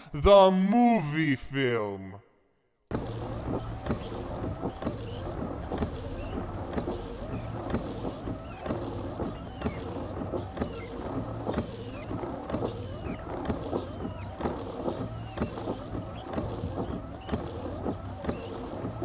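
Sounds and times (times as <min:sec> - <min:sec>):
rubber squeaking on glass: 0:02.9 - 0:19.0
steady low hum: 0:02.9 - 0:19.0
windshield wipers knocking: 0:02.9 - 0:19.0.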